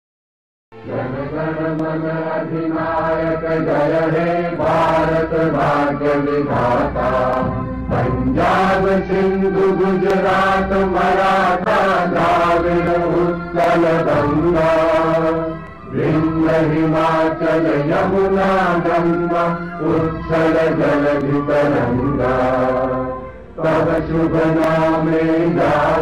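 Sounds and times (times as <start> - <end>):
steady low drone: 0.8 - 26.0
voices chanting: 0.8 - 26.0.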